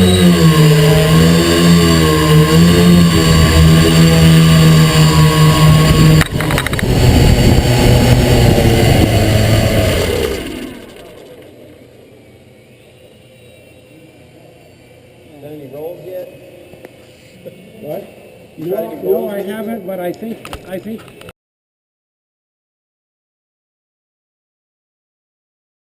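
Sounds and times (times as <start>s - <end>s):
quadcopter motors and propellers whirring: 0.0s - 21.3s.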